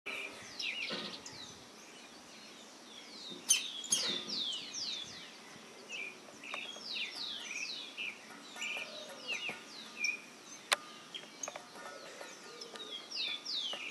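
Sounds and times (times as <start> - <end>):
birds chirping: 0.1 - 13.9.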